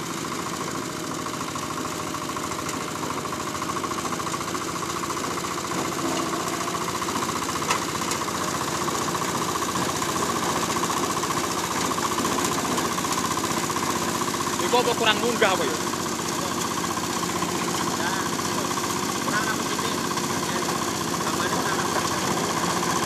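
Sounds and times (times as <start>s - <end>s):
grass chopper engine running: 0.0s - 23.0s.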